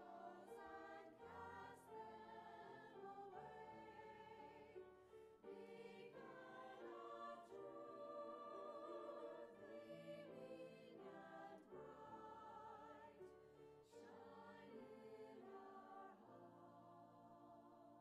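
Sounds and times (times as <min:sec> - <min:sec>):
church choir singing: 0:00.0 - 0:18.0.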